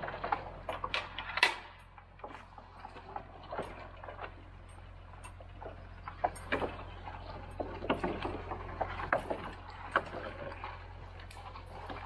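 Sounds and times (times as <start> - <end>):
branches scraping and snapping: 0.0 - 12.0
low winch hum: 0.0 - 12.0.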